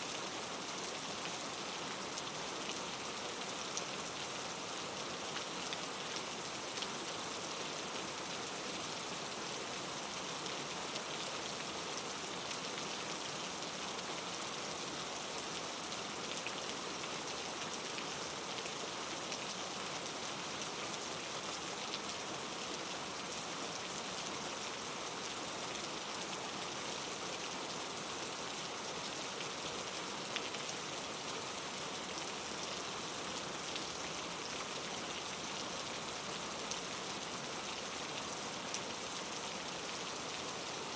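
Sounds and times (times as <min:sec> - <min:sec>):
rain pattering on a surface: 0:00.1 - 0:40.9.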